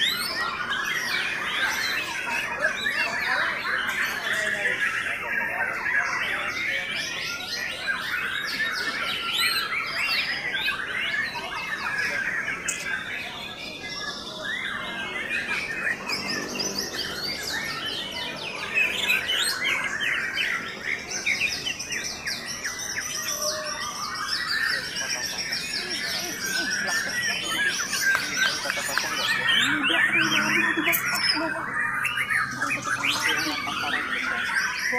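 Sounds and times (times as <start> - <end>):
birds singing: 0.0 - 34.9.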